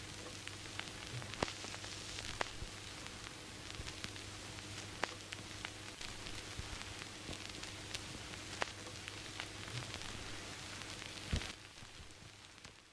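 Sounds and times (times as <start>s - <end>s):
film hiss: 0.0s - 12.9s.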